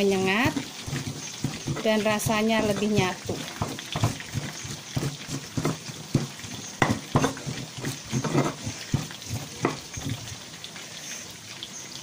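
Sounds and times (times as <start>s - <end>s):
stone pestle grinding in mortar: 0.0s - 10.4s.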